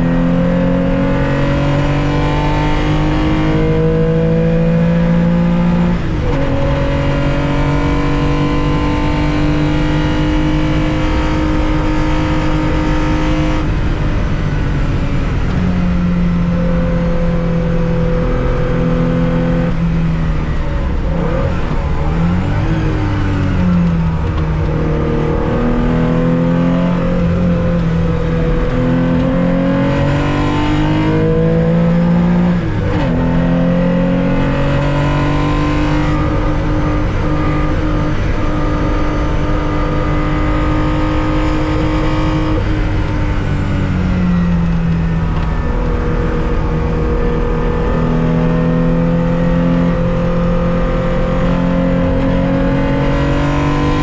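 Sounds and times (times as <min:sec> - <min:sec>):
car engine at racing speed: 0:00.0 - 0:54.0
road noise: 0:00.0 - 0:54.0.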